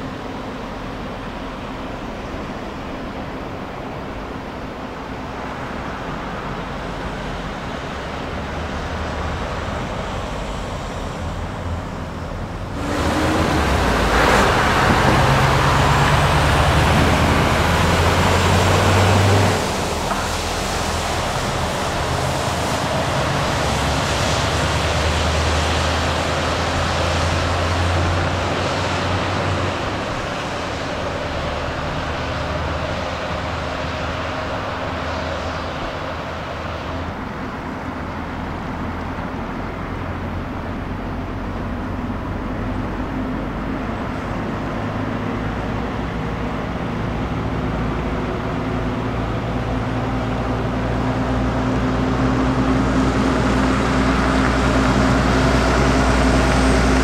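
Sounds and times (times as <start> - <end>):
dump trucks driving past: 0.0 - 57.0
road noise: 0.0 - 57.0
truck engine running: 4.9 - 57.0.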